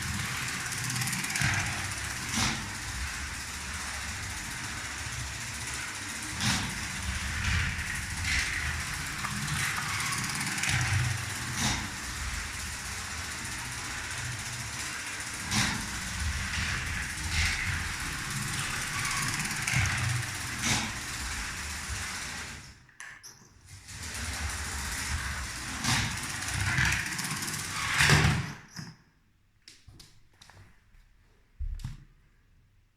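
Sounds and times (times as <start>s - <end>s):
toy train motor humming: 0.0s - 22.9s, 23.7s - 28.7s.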